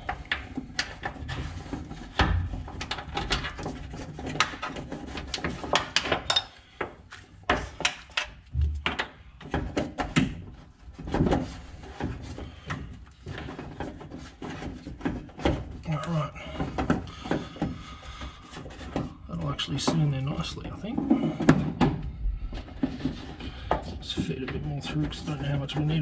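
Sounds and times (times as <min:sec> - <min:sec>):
cable knocking and rubbing: 0:00.0 - 0:26.0.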